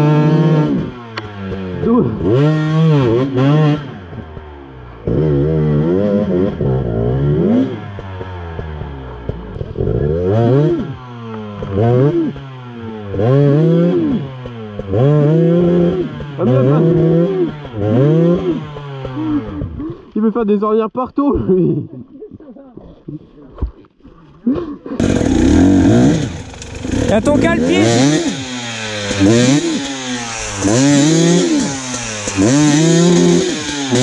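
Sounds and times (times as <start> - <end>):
motorcycle engine revving: 0.0 - 20.2, 25.0 - 34.0.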